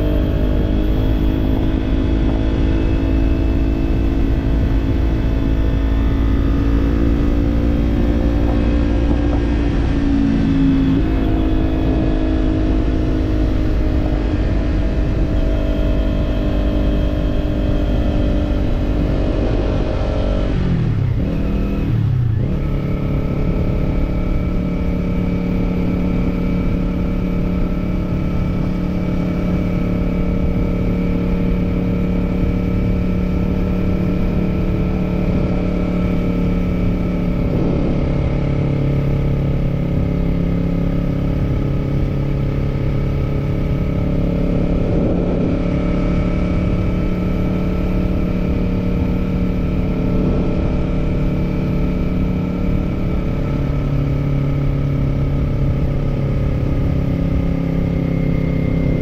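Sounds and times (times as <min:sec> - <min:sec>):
low wind rumble: 0:00.0 - 0:59.0
motorcycle engine running: 0:00.0 - 0:59.0.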